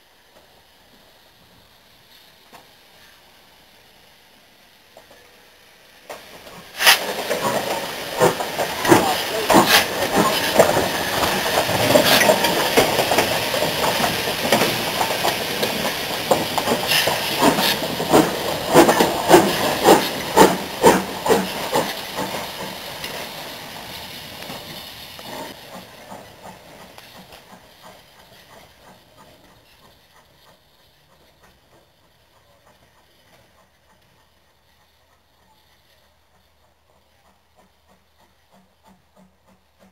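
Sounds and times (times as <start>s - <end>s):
steam hiss: 0.0s - 39.9s
steam locomotive passing: 0.0s - 39.9s.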